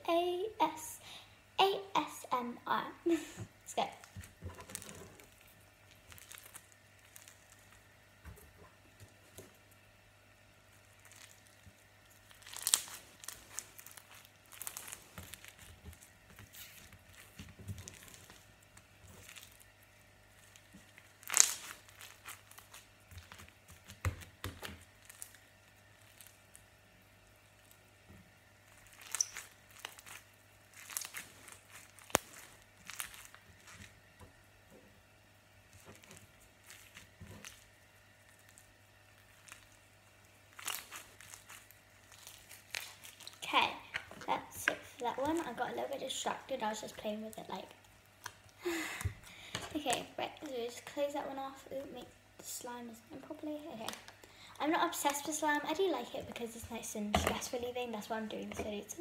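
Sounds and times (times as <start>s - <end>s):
foam bead slime crackling: 3.0s - 8.3s, 8.9s - 59.0s.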